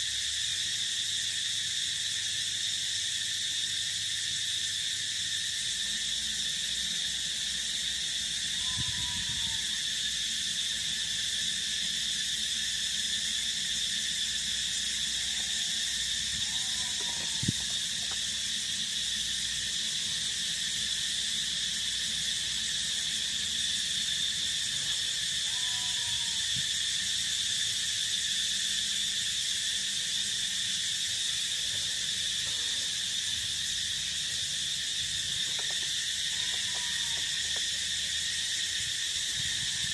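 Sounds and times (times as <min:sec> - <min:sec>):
crickets and field insects chirping: 0:00.0 - 0:39.9.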